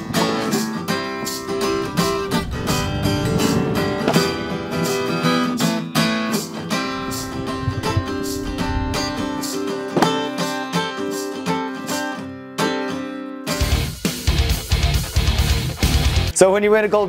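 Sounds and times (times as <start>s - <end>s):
acoustic guitar strummed and picked: 0.0s - 16.3s.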